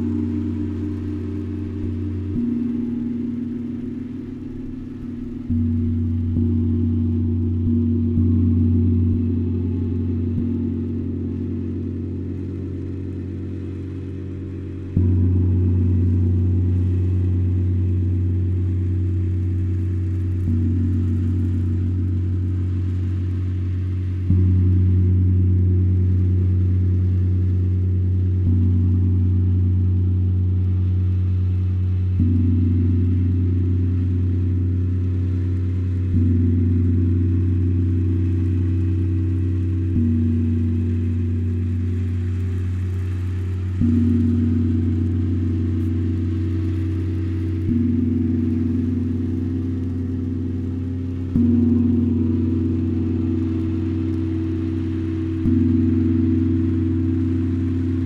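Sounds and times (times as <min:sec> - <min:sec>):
deep struck ringing tones: 0:00.0 - 0:58.0.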